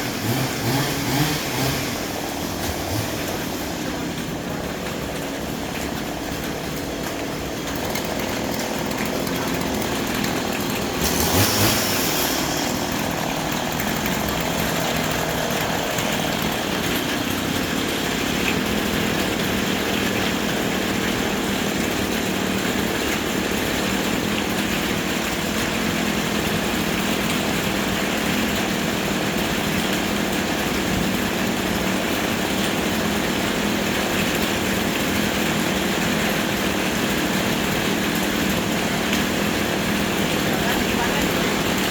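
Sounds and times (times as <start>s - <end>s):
chainsaw running: 0.0s - 41.9s.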